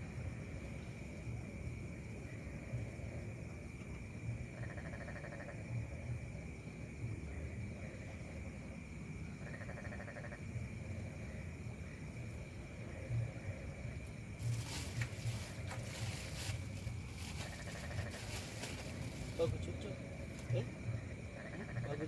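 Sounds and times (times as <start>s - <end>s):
high insect drone: 0.0s - 22.0s
pulsed frog calls: 0.4s - 22.0s.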